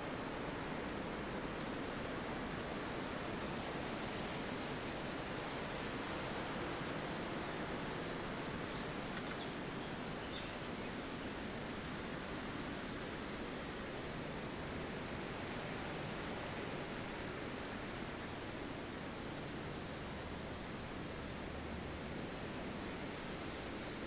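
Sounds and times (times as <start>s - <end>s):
wind rushing through trees: 0.0s - 24.0s.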